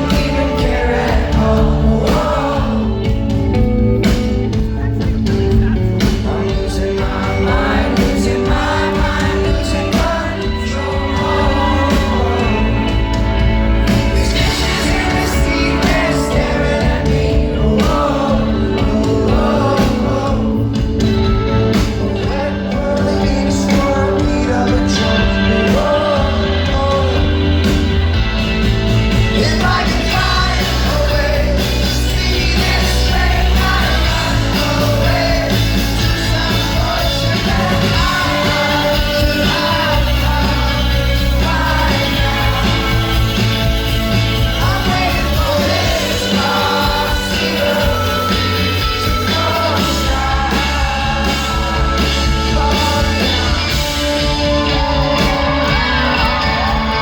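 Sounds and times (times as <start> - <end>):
lead singer singing: 0.0 - 57.0
rock band playing live: 0.0 - 57.0.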